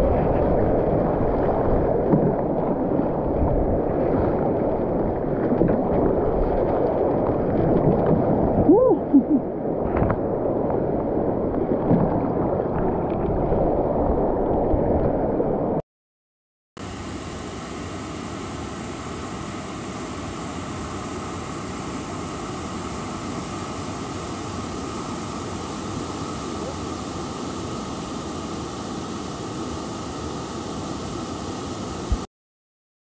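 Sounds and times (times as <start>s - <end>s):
muffled rushing river water: 0.0s - 15.8s, 16.8s - 32.3s.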